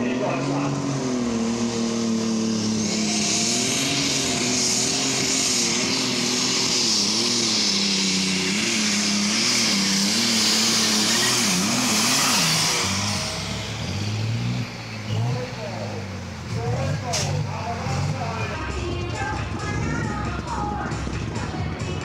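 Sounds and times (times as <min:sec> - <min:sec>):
diesel tractor engine at full throttle: 0:00.0 - 0:22.0.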